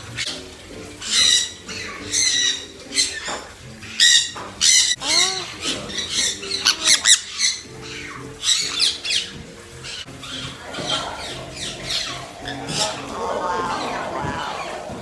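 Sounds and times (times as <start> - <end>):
birds squawking: 0.0 - 15.0.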